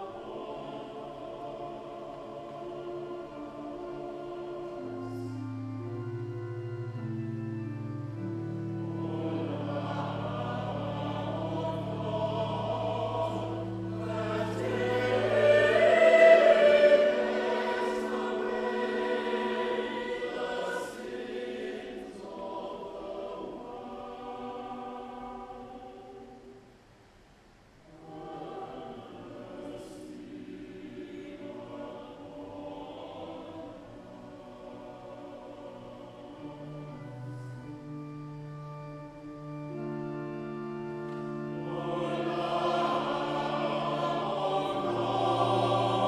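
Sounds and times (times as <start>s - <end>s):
low organ notes: 0.0s - 26.3s, 27.9s - 46.0s
church choir singing: 0.0s - 26.7s, 27.8s - 46.0s.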